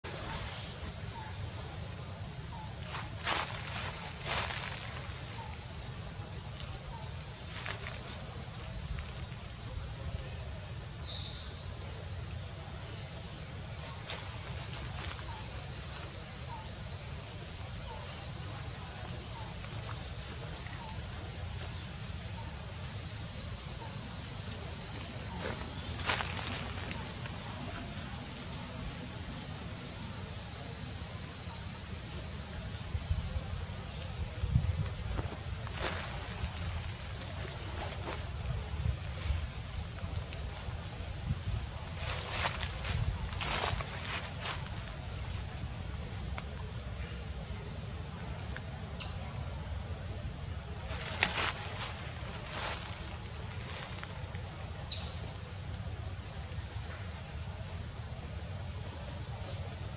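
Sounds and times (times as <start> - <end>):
insect chorus buzzing: 0.0 - 59.9.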